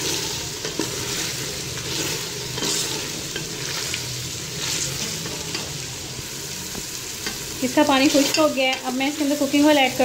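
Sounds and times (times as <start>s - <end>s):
liquid sizzling and bubbling in pot: 0.0s - 10.0s.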